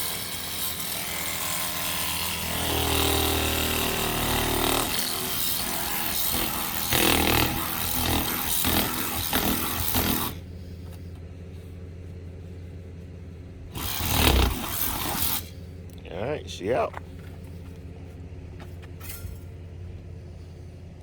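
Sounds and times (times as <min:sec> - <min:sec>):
motor-like hum: 0:00.0 - 0:21.0.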